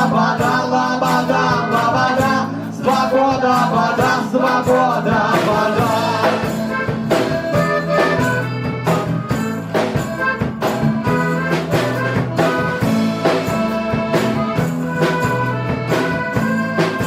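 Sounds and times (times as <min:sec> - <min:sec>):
bass line: 0:00.0 - 0:17.0
live band playing: 0:00.0 - 0:17.0.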